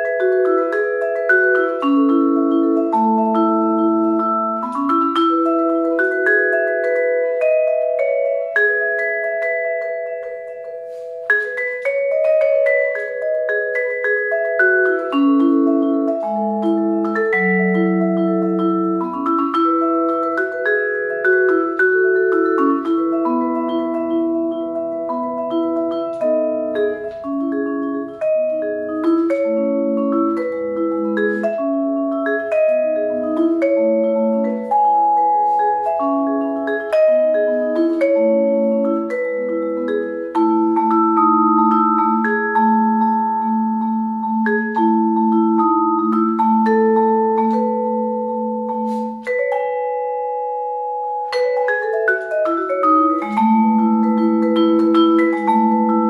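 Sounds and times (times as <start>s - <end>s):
vibraphone playing: 0.0s - 56.0s.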